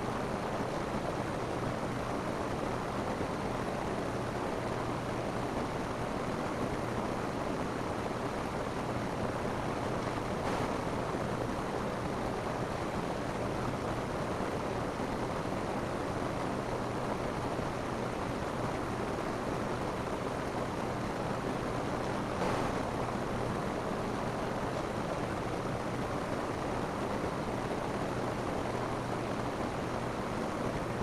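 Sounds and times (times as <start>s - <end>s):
rain falling on a roof: 0.1s - 31.0s.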